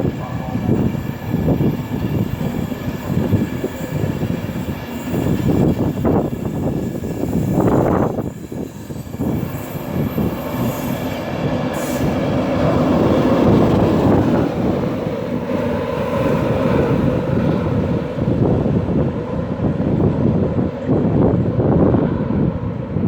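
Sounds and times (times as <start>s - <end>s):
train wheels rumbling on rail: 0.0s - 23.0s
wind buffeting microphone: 0.0s - 23.0s.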